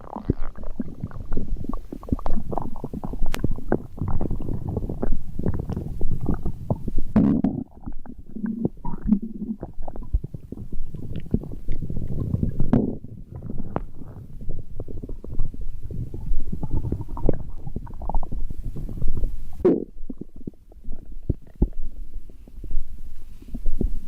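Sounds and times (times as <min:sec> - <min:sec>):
low-pitched stomach growls: 0:00.0 - 0:24.0
stomach gurgling: 0:00.0 - 0:24.0.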